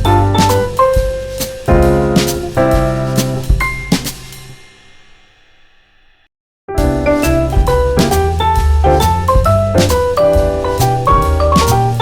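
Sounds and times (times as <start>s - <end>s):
upbeat jazzy music: 0.0s - 4.4s, 6.7s - 12.0s.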